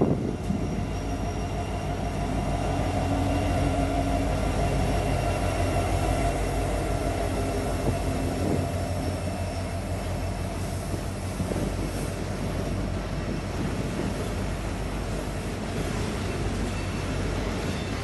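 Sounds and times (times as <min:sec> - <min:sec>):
steel wheels rumbling on rails: 0:00.0 - 0:18.0.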